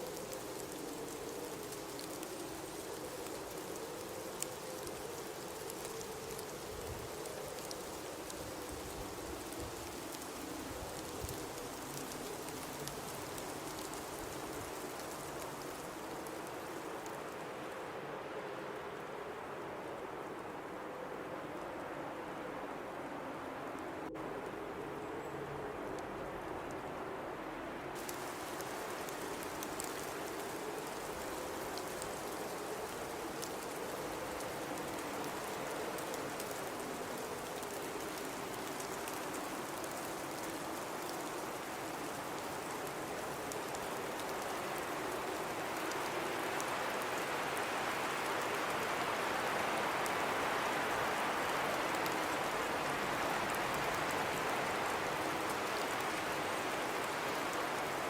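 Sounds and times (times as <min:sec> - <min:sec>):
faint ticks: 0:00.0 - 0:17.4, 0:28.0 - 0:58.0
blizzard wind howling: 0:00.0 - 0:58.0.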